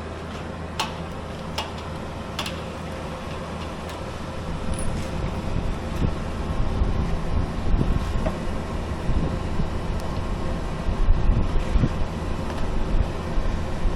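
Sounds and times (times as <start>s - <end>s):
low mechanical hum: 0.0s - 13.9s
rough rumble: 0.0s - 13.9s.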